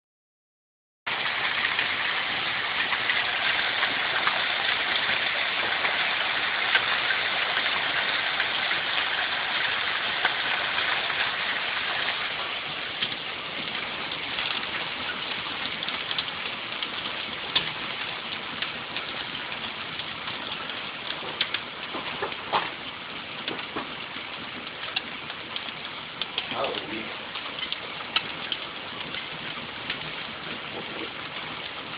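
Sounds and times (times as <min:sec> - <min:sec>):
hail clattering: 0:01.1 - 0:31.9.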